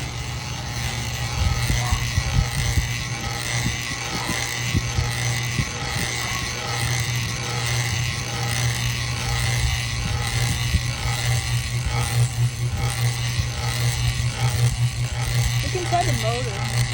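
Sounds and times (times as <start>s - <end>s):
ceiling fan humming: 0.0s - 16.9s.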